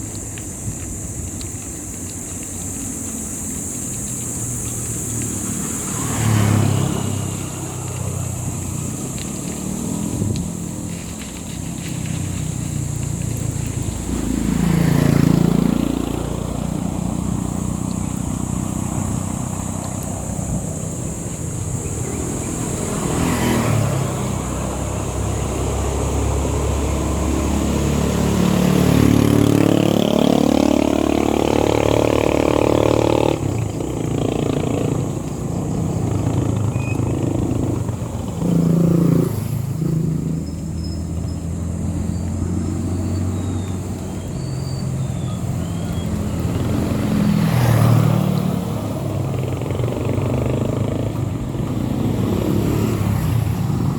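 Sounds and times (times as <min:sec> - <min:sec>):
motorcycle engine accelerating: 0:02.7 - 0:53.9.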